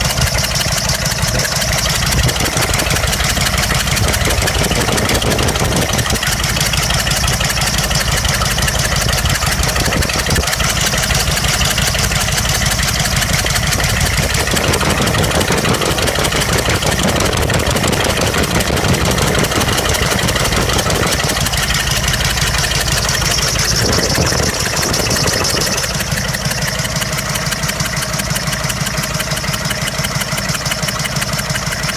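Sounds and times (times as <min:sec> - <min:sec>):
diesel engine idling with misfire: 0:00.0 - 0:31.9.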